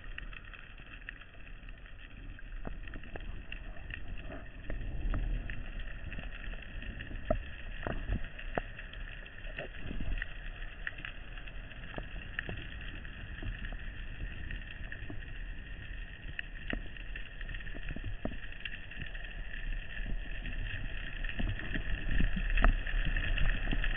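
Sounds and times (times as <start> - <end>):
underwater hiss and rumble: 0.0 - 23.9.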